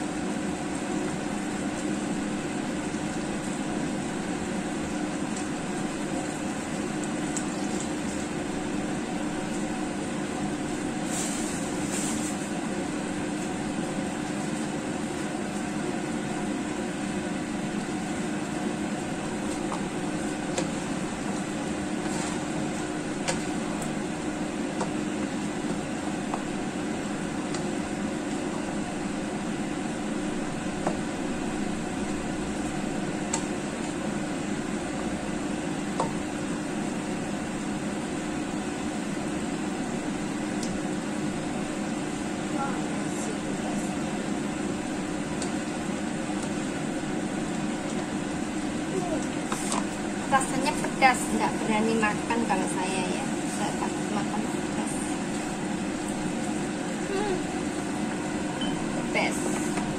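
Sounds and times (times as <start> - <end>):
kitchen fan drone: 0.0 - 59.9.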